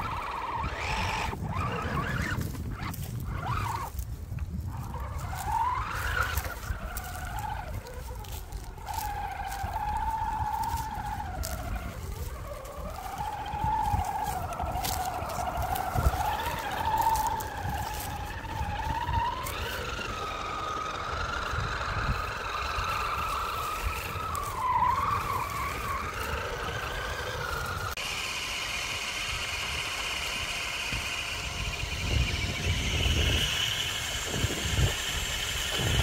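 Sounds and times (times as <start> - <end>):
remote control car motor whine: 0.0 - 36.0.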